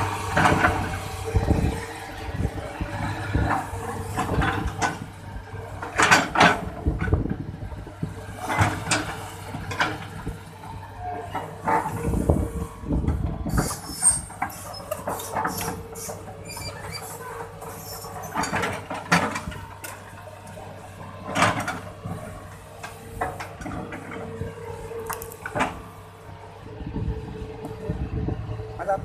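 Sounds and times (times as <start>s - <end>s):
excavator engine running: 0.0s - 29.0s.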